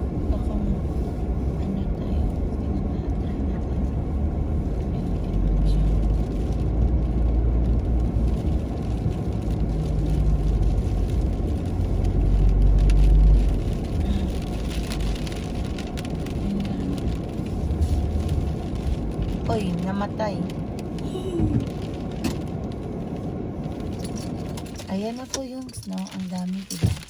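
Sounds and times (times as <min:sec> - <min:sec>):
car driving through snow: 0:00.0 - 0:27.0.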